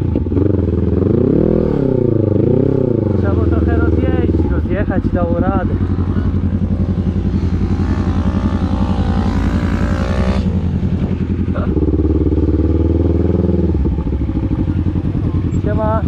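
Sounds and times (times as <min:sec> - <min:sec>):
quad engine running: 0:00.0 - 0:16.0.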